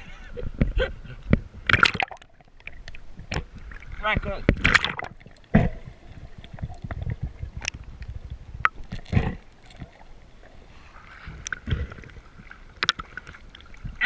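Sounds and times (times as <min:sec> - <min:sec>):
water sloshing and splashing: 0:00.4 - 0:14.0.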